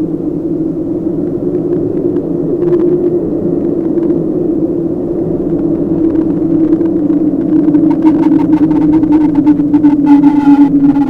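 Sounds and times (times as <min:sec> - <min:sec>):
faint crackles: 0:00.0 - 0:11.0
low droning tone: 0:00.0 - 0:11.0
rumbling wash: 0:00.0 - 0:11.0.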